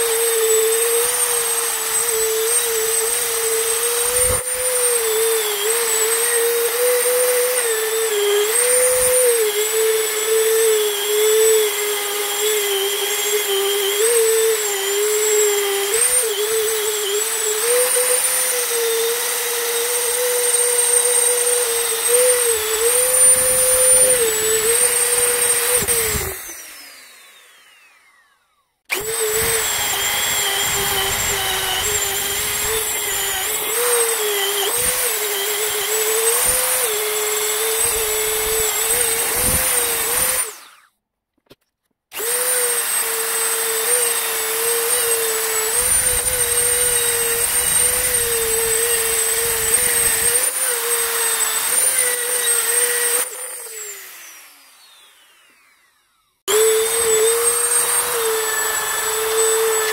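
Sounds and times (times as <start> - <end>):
high-speed rotary tool grinding metal: 0.0 - 40.9, 42.1 - 59.9.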